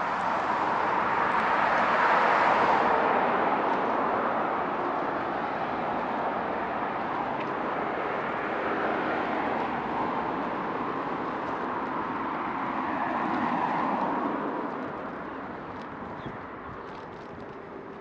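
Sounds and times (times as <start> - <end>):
car tyres hissing on road: 0.0 - 18.0.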